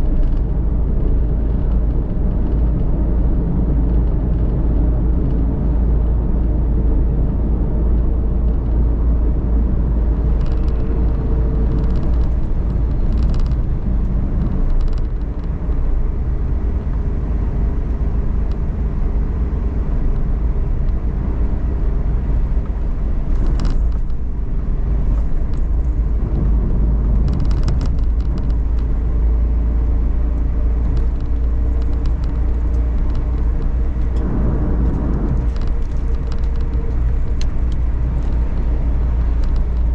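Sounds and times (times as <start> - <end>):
engine and road rumble: 0.0 - 39.9.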